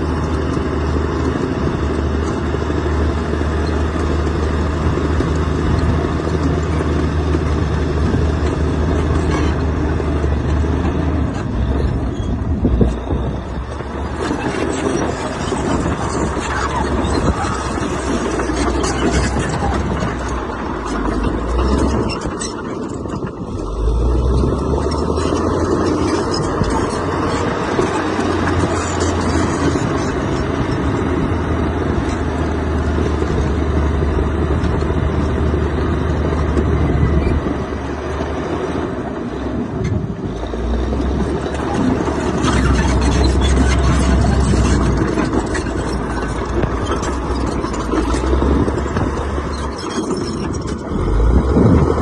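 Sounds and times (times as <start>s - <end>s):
heavy machinery diesel engine rumbling: 0.0s - 52.0s.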